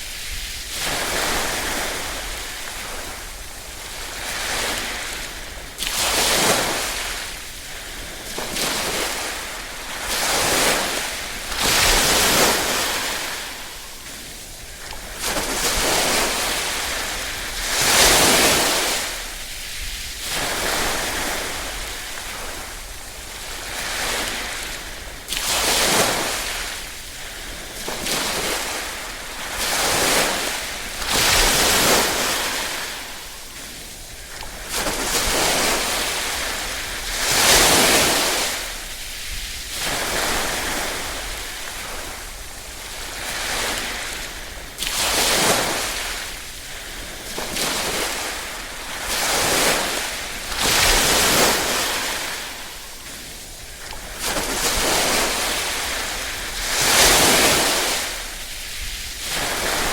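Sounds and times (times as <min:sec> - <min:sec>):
small waves lapping on shore: 0:00.0 - 0:59.9.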